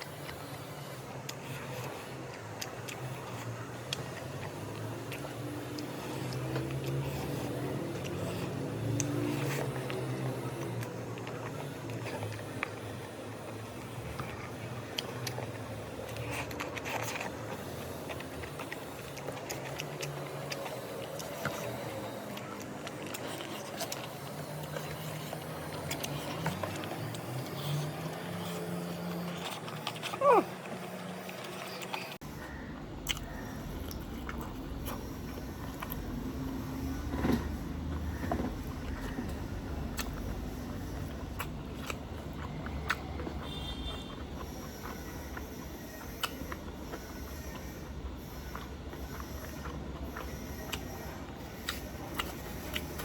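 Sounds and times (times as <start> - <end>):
person chewing: 0.0 - 53.0.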